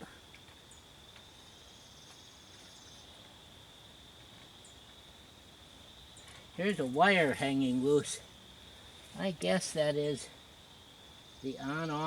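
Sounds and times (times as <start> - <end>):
high-pitched insect trill: 0.0 - 12.0
higher insect trill: 0.0 - 12.0.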